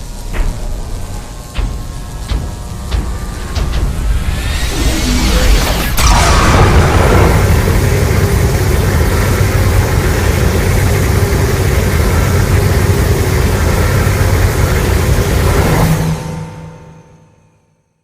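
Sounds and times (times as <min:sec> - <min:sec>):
loud low monster rumble: 0:00.0 - 0:16.6.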